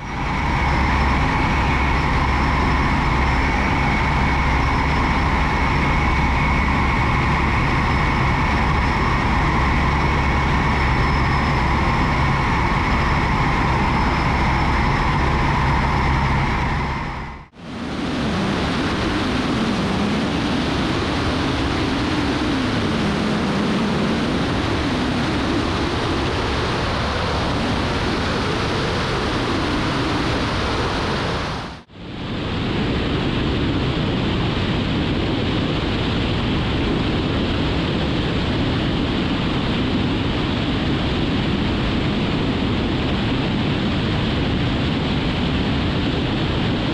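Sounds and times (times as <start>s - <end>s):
light aircraft engine and propeller: 0.0s - 46.9s.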